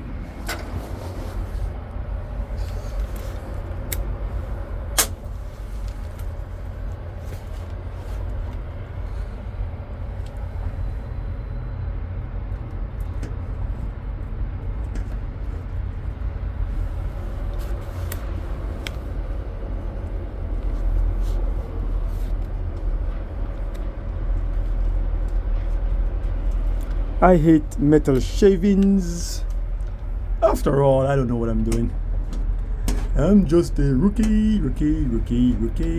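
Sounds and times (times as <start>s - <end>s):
faint steady hum: 0.0s - 35.9s
low mechanical rumble: 0.0s - 35.9s.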